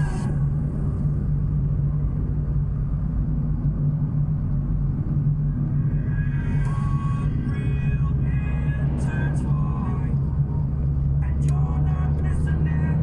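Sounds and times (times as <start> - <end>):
car cabin engine and tyre rumble: 0.0 - 13.0.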